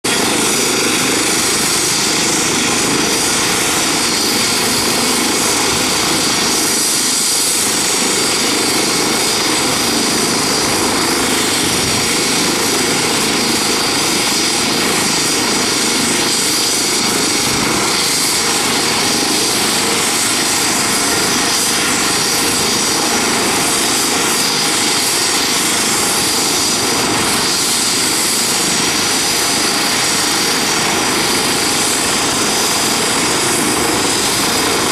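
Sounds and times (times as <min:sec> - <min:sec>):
helicopter idling: 0:00.0 - 0:34.9.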